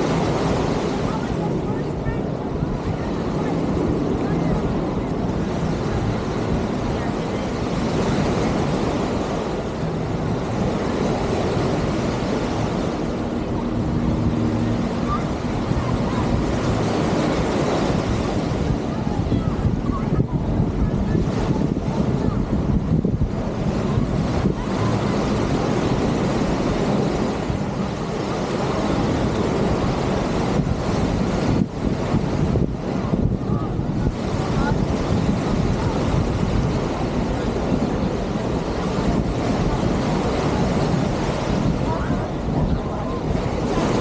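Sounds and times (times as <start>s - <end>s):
ocean surf washing onto beach: 0.0s - 44.0s
wind rumbling on microphone: 0.0s - 44.0s.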